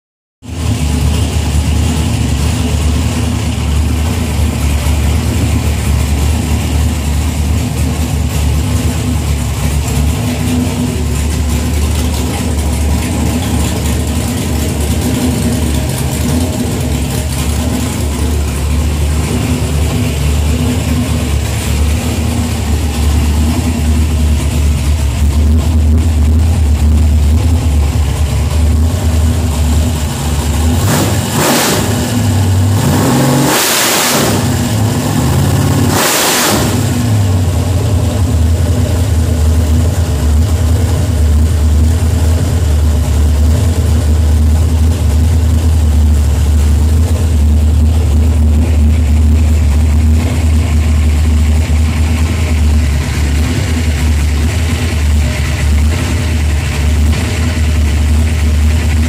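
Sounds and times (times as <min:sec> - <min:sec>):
car engine idling: 0:00.4 - 0:59.0.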